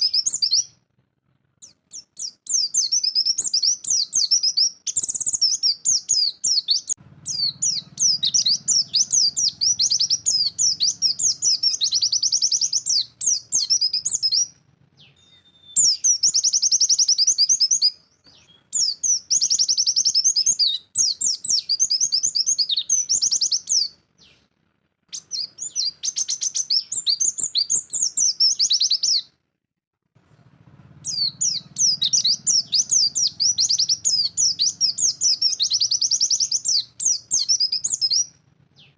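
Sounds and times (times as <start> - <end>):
bird rapid high twittering: 0.0 - 0.8, 1.6 - 24.4, 25.1 - 29.3, 31.0 - 38.9.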